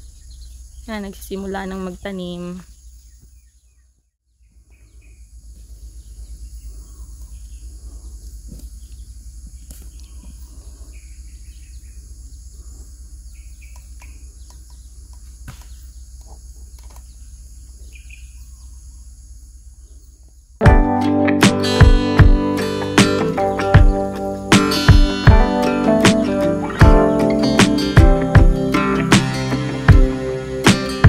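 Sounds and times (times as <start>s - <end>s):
birds chirping: 0.0s - 20.6s, 21.3s - 31.0s.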